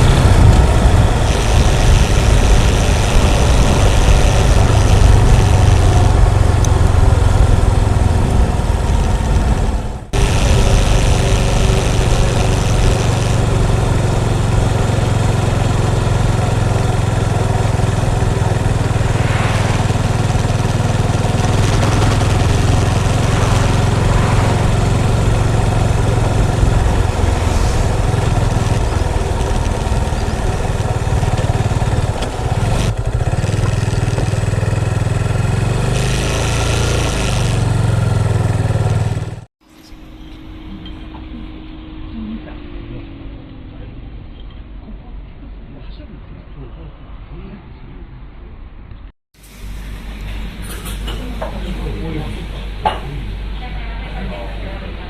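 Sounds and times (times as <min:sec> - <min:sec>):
motorcycle engine running: 0:00.0 - 0:44.4.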